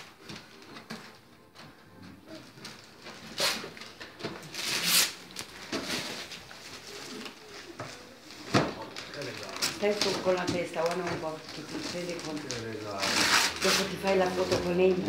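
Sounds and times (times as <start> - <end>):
wrapping paper rustling and tearing: 2.2 - 15.0.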